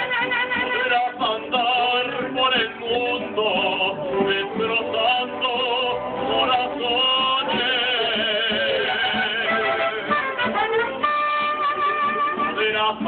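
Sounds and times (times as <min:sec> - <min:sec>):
strummed guitars: 0:00.0 - 0:13.0.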